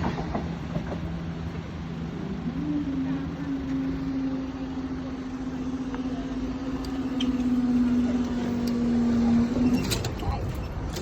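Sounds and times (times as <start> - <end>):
diesel train engine droning: 0.0 - 11.0.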